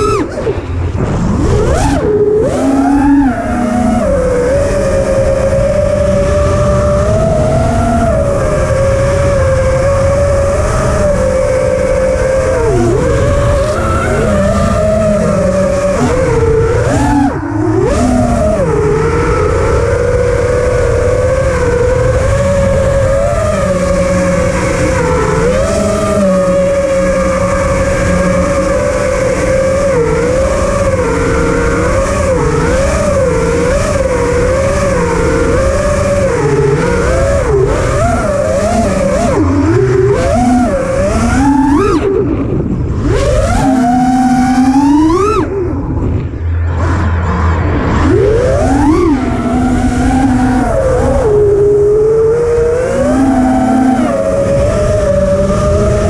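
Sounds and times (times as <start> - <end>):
quadcopter propellers whining: 0.0 - 56.0.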